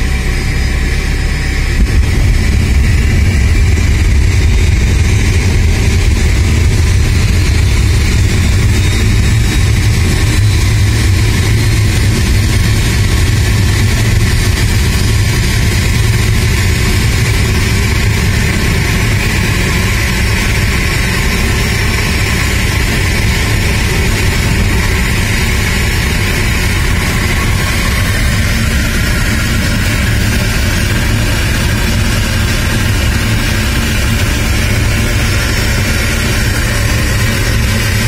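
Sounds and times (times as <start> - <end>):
tug engine running under load: 0.0 - 38.0.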